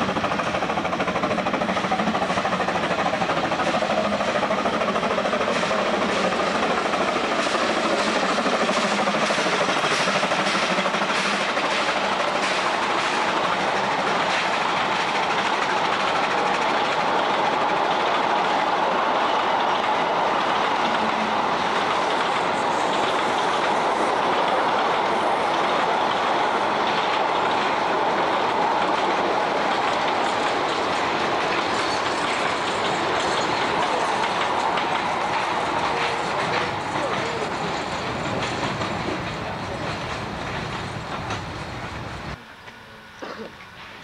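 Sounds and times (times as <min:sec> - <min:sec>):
train wheels clattering over rail joints: 0:00.0 - 0:42.4.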